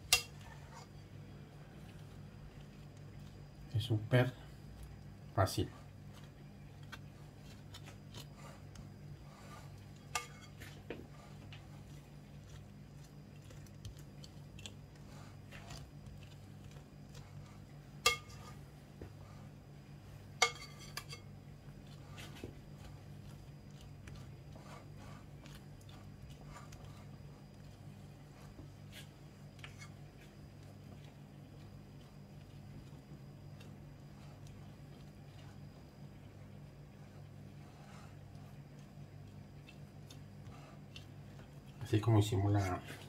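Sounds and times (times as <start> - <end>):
spatula scraping frosting: 0.0 - 43.0
steady low hum: 0.0 - 43.0.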